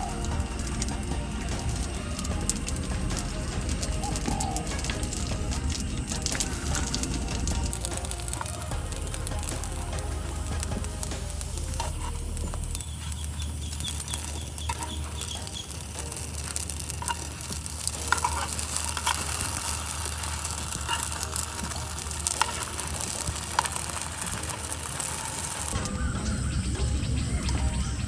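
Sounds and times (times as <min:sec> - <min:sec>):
food sizzling in a frying pan: 0:00.0 - 0:26.1.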